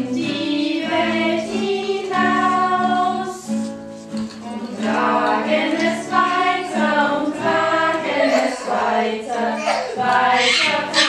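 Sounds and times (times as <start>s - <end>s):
choir singing: 0.0s - 3.6s, 4.7s - 11.0s.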